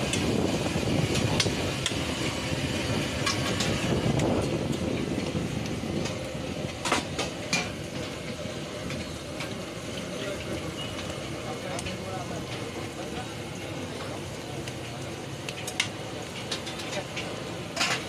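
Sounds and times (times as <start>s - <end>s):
steady low rumble: 0.0s - 16.4s.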